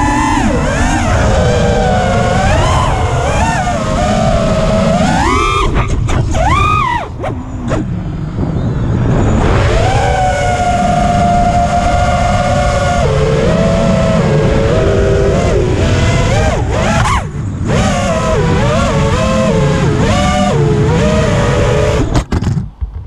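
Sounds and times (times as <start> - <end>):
drone motors whining: 0.0 - 22.3
low wind rumble: 0.0 - 23.0.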